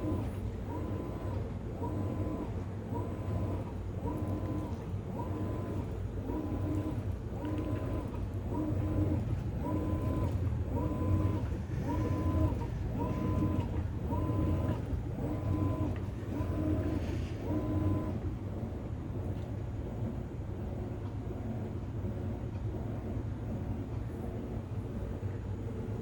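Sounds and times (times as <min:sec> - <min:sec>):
washing machine motor whining: 0:00.0 - 0:26.0.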